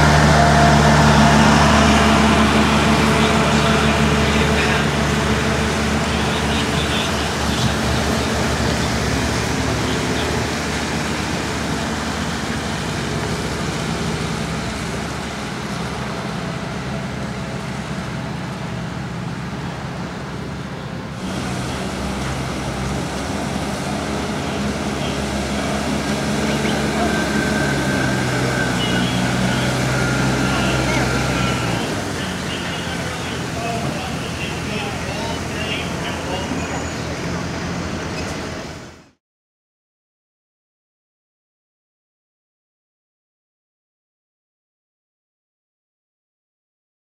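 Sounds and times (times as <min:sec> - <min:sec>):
road noise: 0:00.0 - 0:39.2
tractor engine running: 0:00.0 - 0:39.2.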